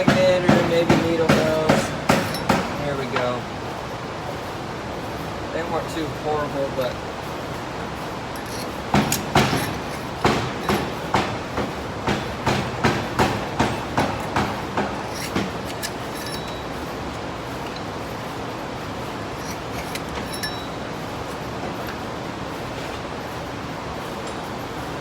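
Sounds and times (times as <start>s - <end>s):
shop background noise: 0.0s - 25.0s.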